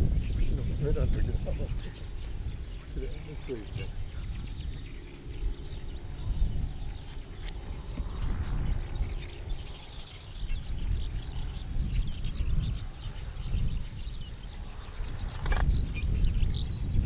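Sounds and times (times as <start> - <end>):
gusty wind buffeting microphone: 0.0 - 17.0
small birds chirping: 0.0 - 17.0.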